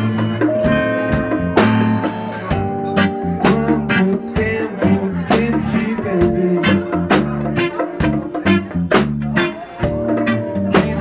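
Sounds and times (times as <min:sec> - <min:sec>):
bass guitar: 0:00.0 - 0:11.0
drum kit beat: 0:00.0 - 0:11.0
electric guitar: 0:00.0 - 0:11.0.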